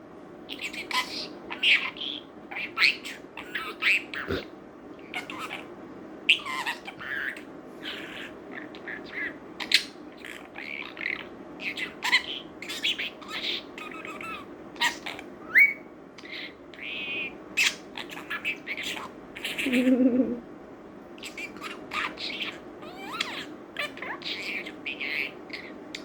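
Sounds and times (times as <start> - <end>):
budgerigar chattering: 0.5 - 5.7, 6.3 - 20.3, 21.2 - 26.0.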